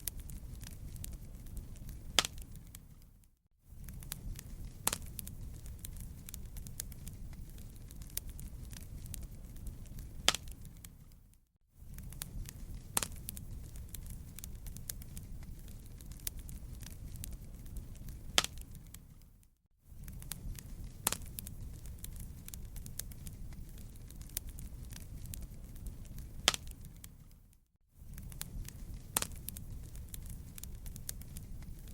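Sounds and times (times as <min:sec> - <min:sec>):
sharp pops of fire: 0:00.0 - 0:03.1, 0:03.8 - 0:11.1, 0:11.9 - 0:19.3, 0:20.0 - 0:27.4, 0:28.0 - 0:31.9
fire crackling: 0:00.0 - 0:31.9
fire low rumble: 0:00.0 - 0:31.9.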